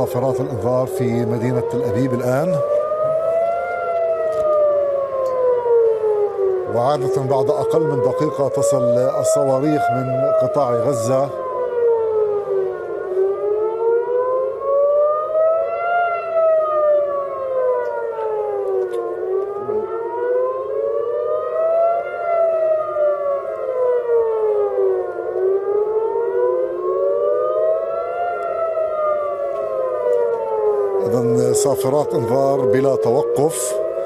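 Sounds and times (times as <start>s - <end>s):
air-raid sirens wailing: 0.0s - 34.0s.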